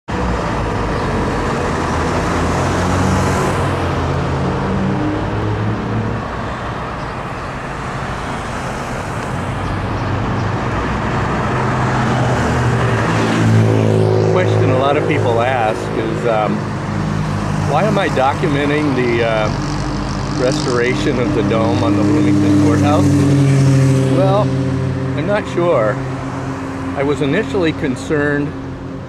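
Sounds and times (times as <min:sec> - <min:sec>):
road traffic: 0:00.0 - 0:29.0
car engine running: 0:00.2 - 0:29.0.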